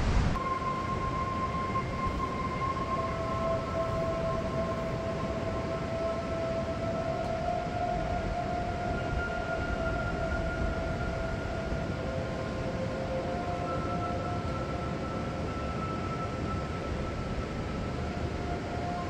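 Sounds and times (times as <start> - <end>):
steady rushing noise: 0.0 - 19.0
droning tones sliding in pitch: 0.4 - 19.0.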